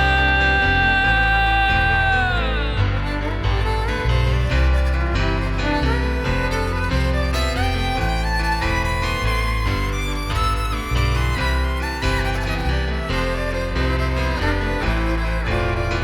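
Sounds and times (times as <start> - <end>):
fiddle melody: 0.0 - 16.0
low accompaniment notes: 0.0 - 16.0.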